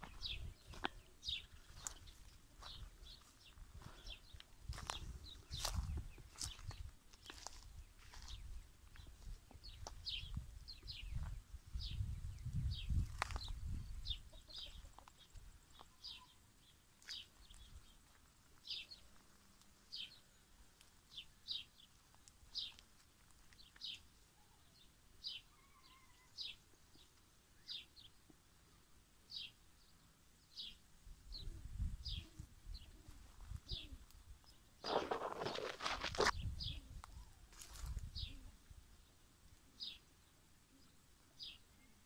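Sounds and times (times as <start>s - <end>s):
bird chirping: 0.0s - 18.0s, 23.5s - 42.0s.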